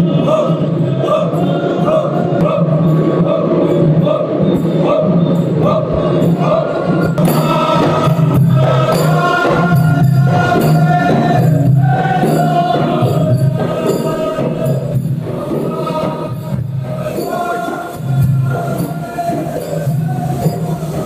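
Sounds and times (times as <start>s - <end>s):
chorus of voices chanting: 0.0s - 21.0s
percussion: 0.0s - 21.0s.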